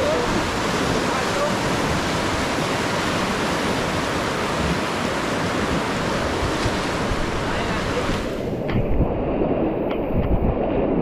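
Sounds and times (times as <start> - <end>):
whitewater rushing: 0.0 - 9.8.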